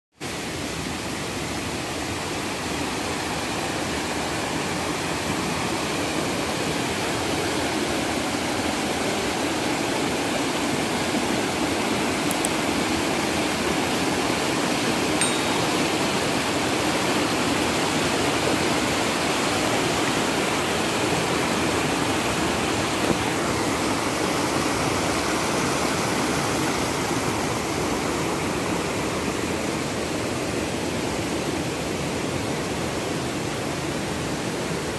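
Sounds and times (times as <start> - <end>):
river rushing over rocks: 0.2 - 34.9.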